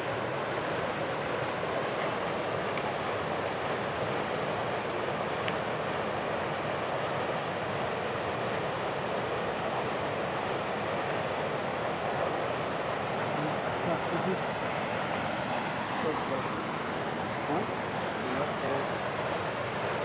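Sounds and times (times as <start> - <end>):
fast-flowing stream rushing: 0.0 - 20.0.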